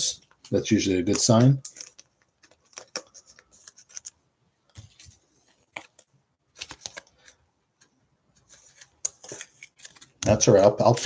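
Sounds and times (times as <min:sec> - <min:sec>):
cards scraping into plastic sleeves: 0:00.4 - 0:04.2, 0:04.9 - 0:11.0.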